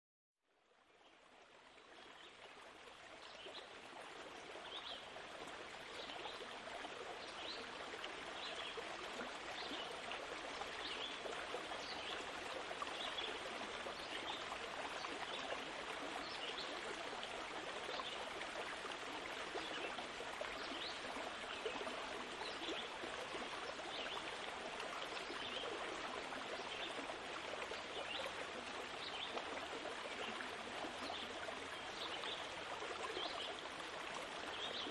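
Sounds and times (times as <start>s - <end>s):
flowing stream: 0.5s - 34.9s.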